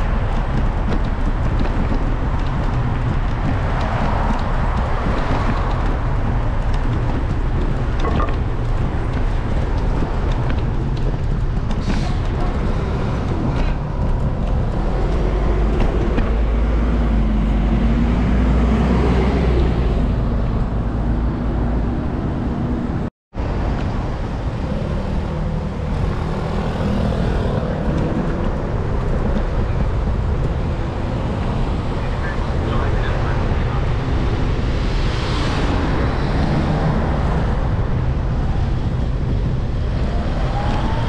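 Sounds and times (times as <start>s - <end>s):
engine hum: 0.0s - 41.0s
traffic passing: 0.0s - 41.0s.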